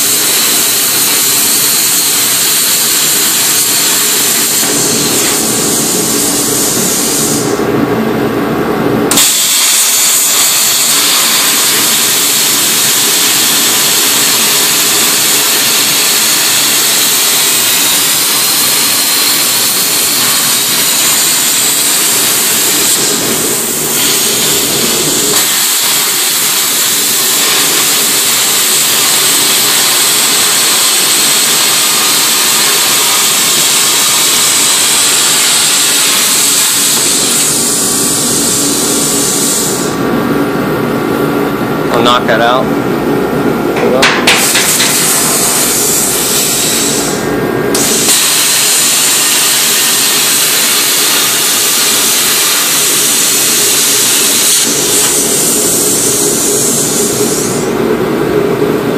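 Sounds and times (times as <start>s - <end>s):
plasma cutter hissing: 0.0s - 7.6s, 9.1s - 40.0s, 44.0s - 57.8s.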